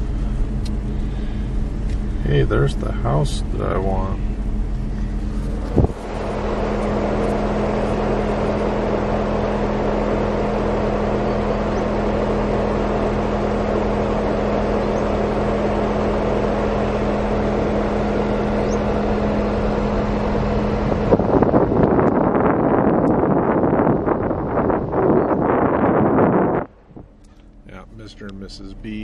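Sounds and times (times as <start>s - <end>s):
car engine hum: 0.0s - 29.0s
road and wind noise: 0.0s - 29.0s.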